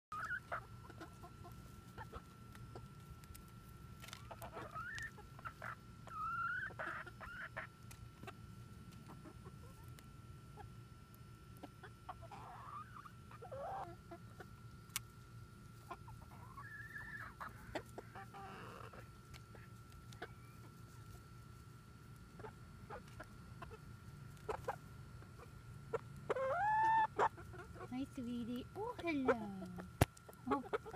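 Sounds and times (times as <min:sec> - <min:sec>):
hens clucking softly: 0:00.1 - 0:02.9, 0:04.1 - 0:10.8, 0:11.5 - 0:14.6, 0:15.7 - 0:21.3, 0:22.2 - 0:27.9, 0:28.7 - 0:30.9.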